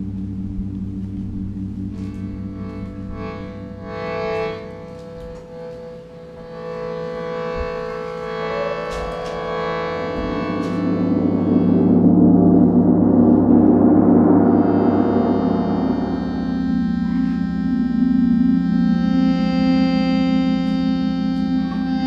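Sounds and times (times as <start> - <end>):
large gong drone: 0.0 - 22.0.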